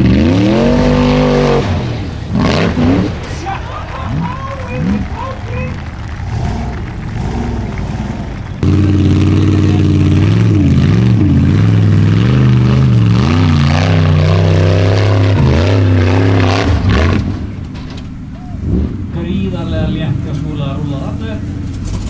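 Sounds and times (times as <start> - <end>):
buggy engine revving and bogging: 0.0 - 22.0.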